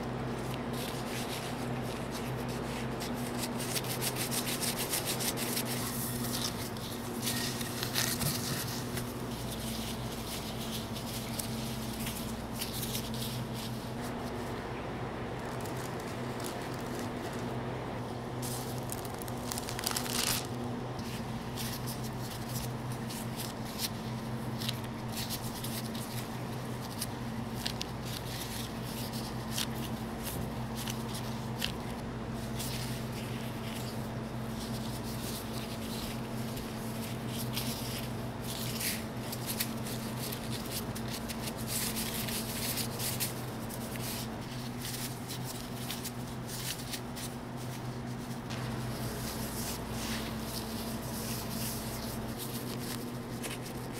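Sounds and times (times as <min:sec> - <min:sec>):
low steady hum: 0:00.0 - 0:53.9
plastic gloves crinkling: 0:00.0 - 0:53.9.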